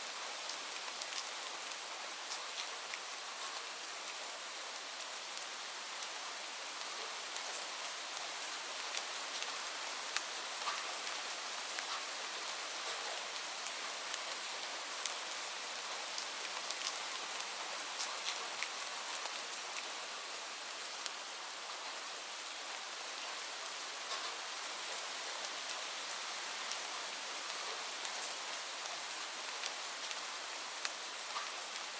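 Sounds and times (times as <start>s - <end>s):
rain falling on leaves: 0.0s - 31.9s.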